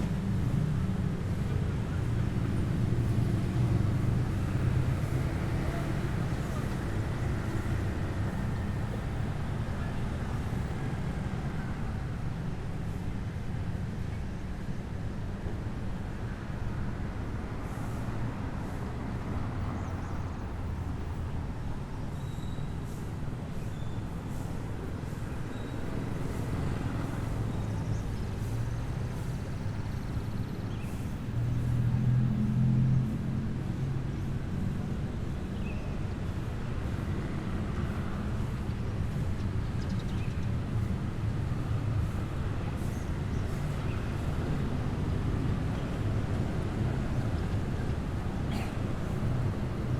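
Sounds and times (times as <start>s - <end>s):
traffic rumble of passing vehicles: 0.0s - 49.9s.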